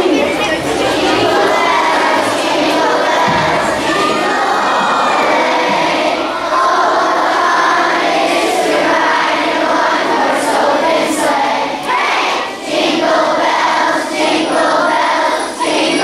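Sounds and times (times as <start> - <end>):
crowd of children shouting and cheering: 0.0 - 16.0.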